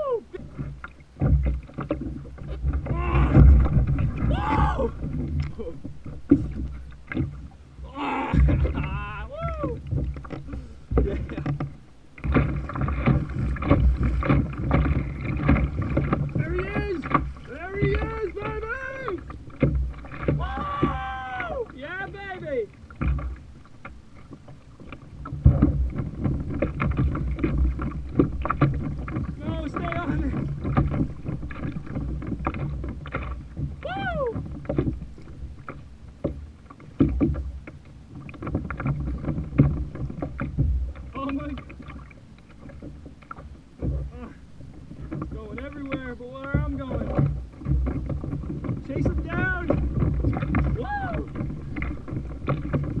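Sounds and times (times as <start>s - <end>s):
wind and water noise: 0.0s - 53.0s
kayak knocks and clicks: 0.3s - 53.0s.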